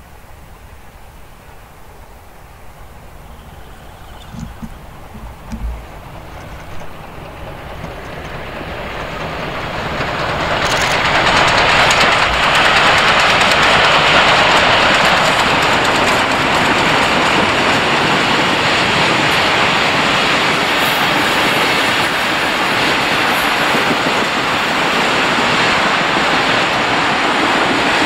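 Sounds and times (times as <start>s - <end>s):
steam train passing: 0.0s - 28.0s
wheels clattering on rails: 2.5s - 28.0s.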